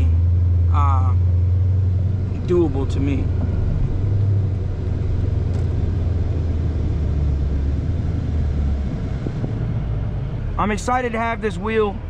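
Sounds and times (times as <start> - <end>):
car engine drone from inside cabin: 0.0 - 12.0.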